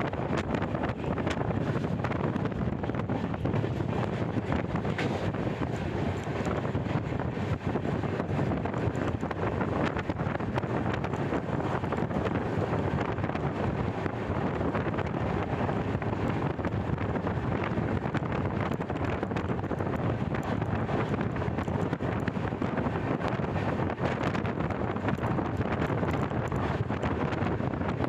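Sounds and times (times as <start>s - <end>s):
passenger train running: 0.0s - 28.0s
wind blowing on microphone: 0.0s - 28.0s.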